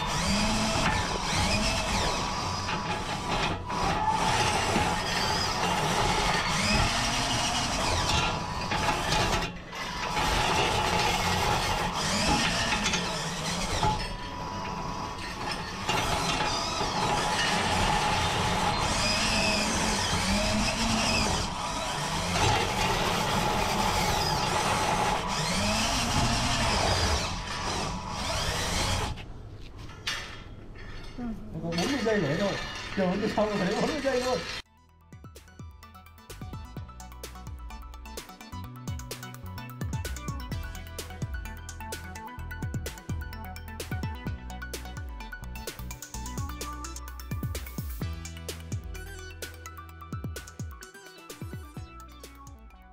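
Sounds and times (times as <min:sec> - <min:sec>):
electric motors whining through gearboxes: 0:00.0 - 0:29.4, 0:31.6 - 0:34.7, 0:35.8 - 0:52.9.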